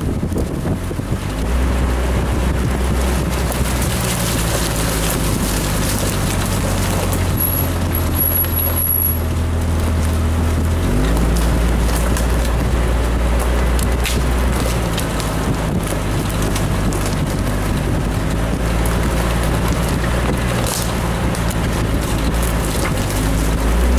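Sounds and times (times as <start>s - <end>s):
off-road vehicle engine: 0.0s - 23.9s.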